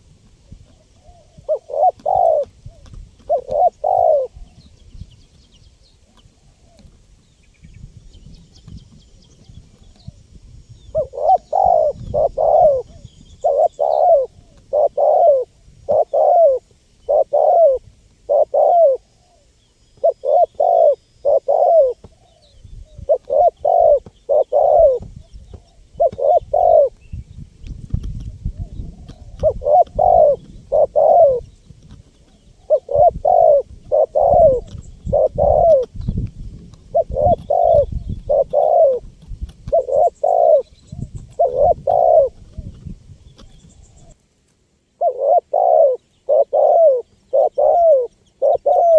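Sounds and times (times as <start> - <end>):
dove cooing: 0.0 - 4.6, 10.8 - 27.0, 28.2 - 44.2, 45.0 - 48.9
small birds chirping: 0.0 - 44.3, 45.0 - 48.9.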